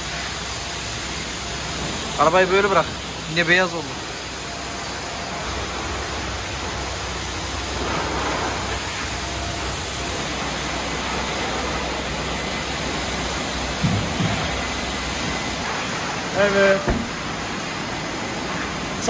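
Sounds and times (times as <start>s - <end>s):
pressure washer spray hissing: 0.0s - 15.8s.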